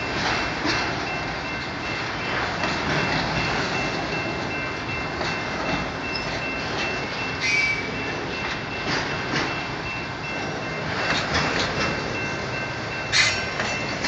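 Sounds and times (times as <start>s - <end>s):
train clanks: 0.0s - 14.0s
train wheels rumbling on rails: 0.0s - 14.0s.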